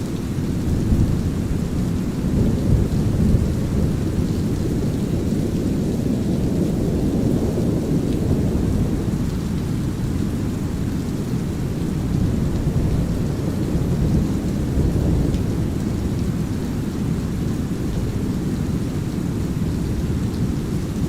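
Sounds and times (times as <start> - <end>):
rolling thunder rumble: 0.6 - 18.7.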